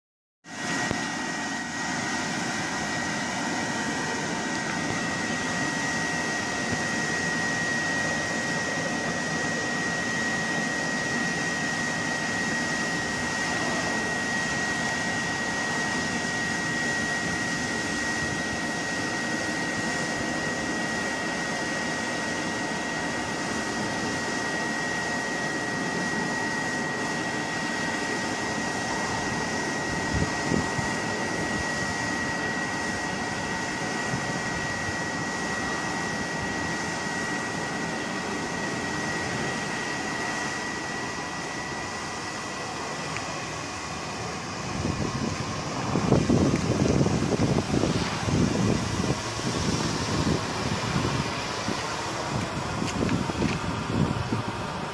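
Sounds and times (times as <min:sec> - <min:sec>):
electric blower rushing air: 0:00.5 - 0:54.9
high-pitched whine: 0:00.5 - 0:54.9.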